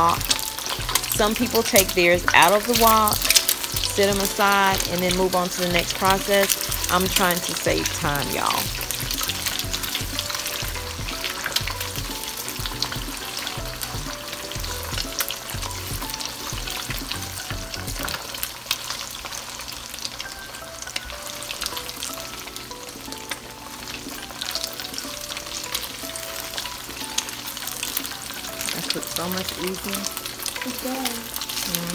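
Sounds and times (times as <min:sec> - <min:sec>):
eggs sizzling in oil: 0:00.0 - 0:31.9.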